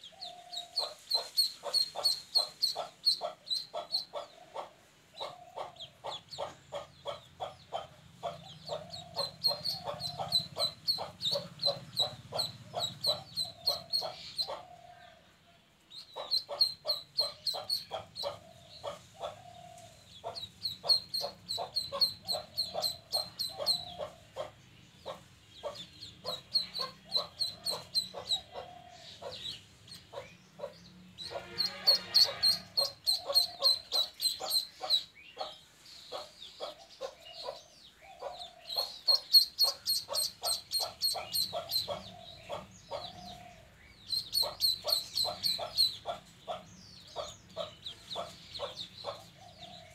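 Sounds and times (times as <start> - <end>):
duckling peeping: 0.1 - 14.7, 15.9 - 19.4, 20.2 - 37.6, 38.2 - 43.4, 44.0 - 49.8.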